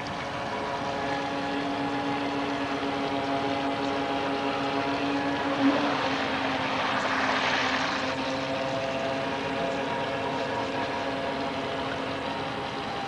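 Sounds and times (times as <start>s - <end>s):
electric motors whining: 0.0s - 13.0s
water rushing: 0.0s - 13.0s.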